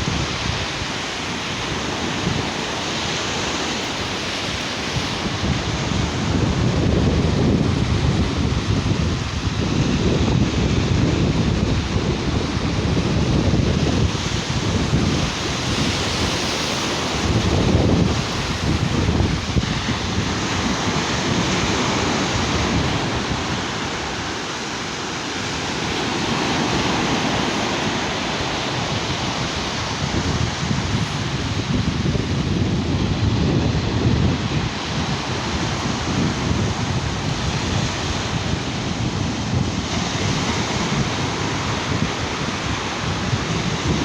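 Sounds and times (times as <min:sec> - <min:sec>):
waves breaking on beach: 0:00.0 - 0:44.0
wind buffeting microphone: 0:00.0 - 0:44.0.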